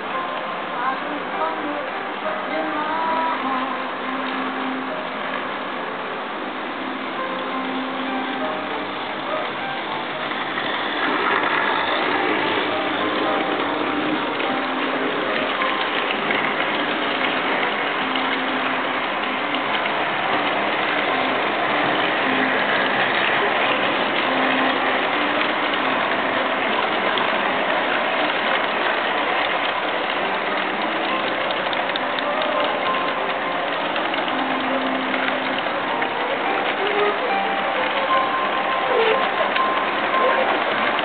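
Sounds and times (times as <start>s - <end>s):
faint blues music: 0.0s - 41.0s
model train wheels rattling on track: 6.2s - 41.0s.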